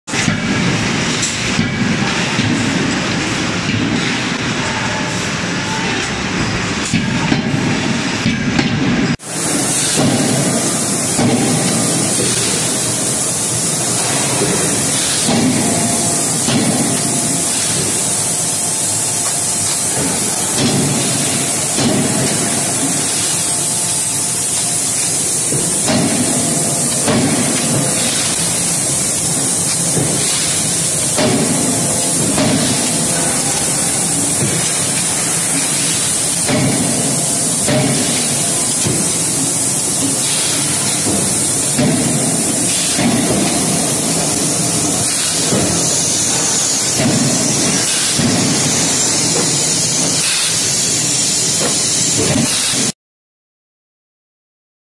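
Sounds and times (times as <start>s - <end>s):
steady loud hiss: 0.1s - 53.0s.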